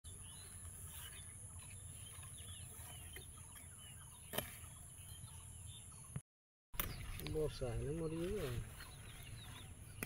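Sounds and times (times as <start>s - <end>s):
birds chirping faintly: 0.1s - 6.2s, 6.8s - 10.0s.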